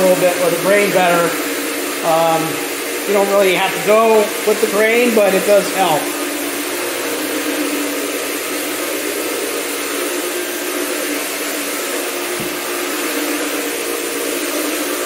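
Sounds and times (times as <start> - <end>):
floor scrubbing machine humming: 0.0 - 15.0.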